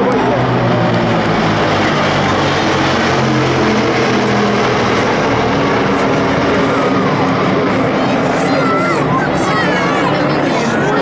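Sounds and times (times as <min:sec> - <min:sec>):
propeller aircraft droning overhead: 0:00.0 - 0:11.0.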